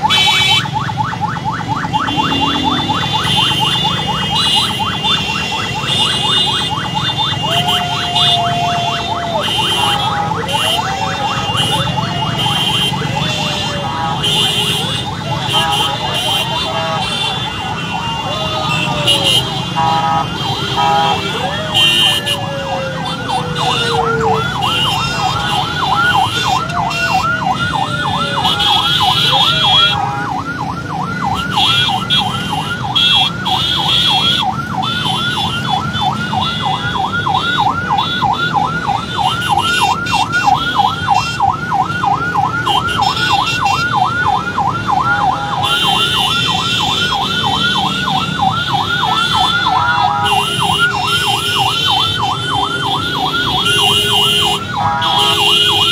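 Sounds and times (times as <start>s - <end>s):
police siren yelping: 0.0s - 55.9s
road traffic rumble: 0.0s - 55.9s.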